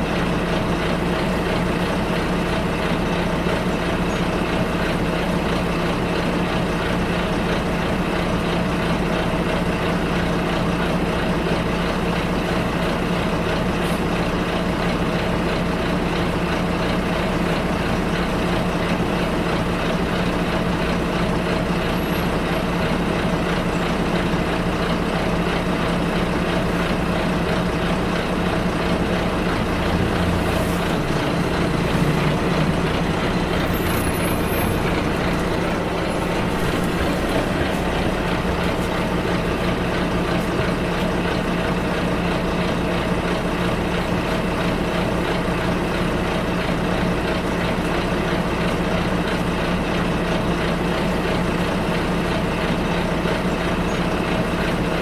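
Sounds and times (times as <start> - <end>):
bus engine humming: 0.0 - 55.0
road noise: 0.0 - 55.0.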